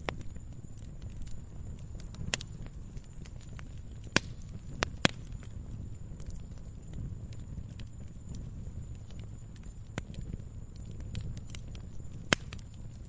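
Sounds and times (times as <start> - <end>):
firewood crackling: 0.0 - 13.0
low rumble of flames: 0.0 - 13.0.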